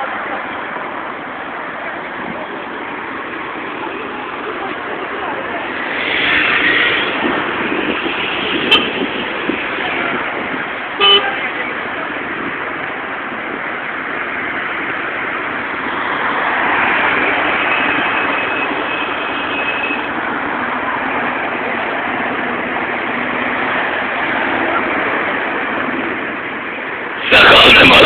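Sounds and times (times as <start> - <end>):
cars passing: 0.0 - 28.0
road noise rushing: 0.0 - 28.0.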